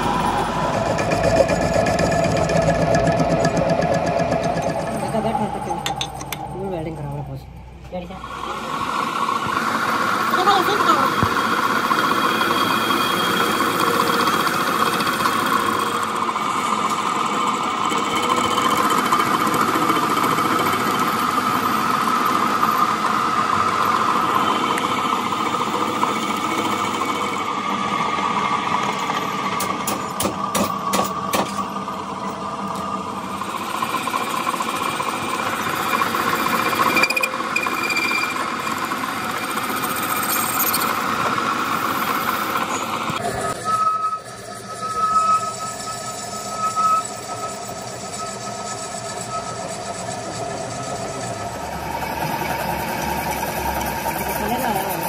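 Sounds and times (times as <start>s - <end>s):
metal lathe machining drone: 0.0s - 55.0s.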